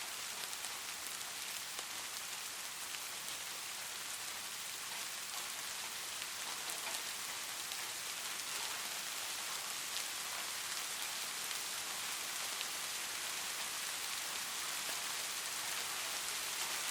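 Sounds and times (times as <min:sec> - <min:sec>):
light rain falling: 0:00.0 - 0:16.9.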